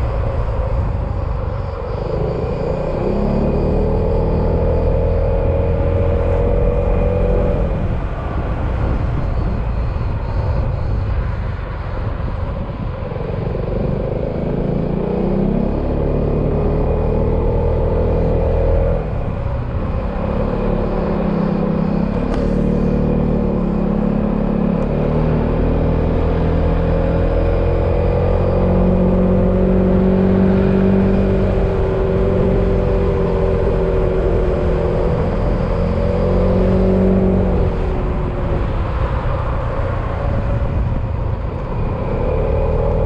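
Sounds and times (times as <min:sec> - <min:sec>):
wind and road noise: 0:00.0 - 0:43.0.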